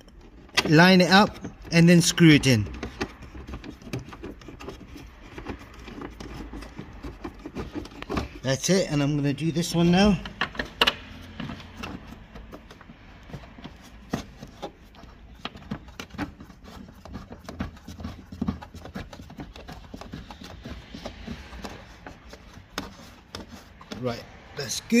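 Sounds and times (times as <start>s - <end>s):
small clicks and scrapes on plastic: 0.0s - 8.7s, 10.0s - 24.4s.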